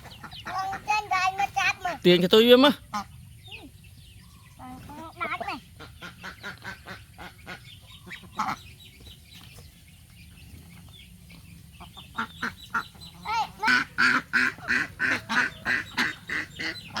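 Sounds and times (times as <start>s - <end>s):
ducks quacking: 0.0s - 3.8s, 4.5s - 9.2s, 10.8s - 17.0s.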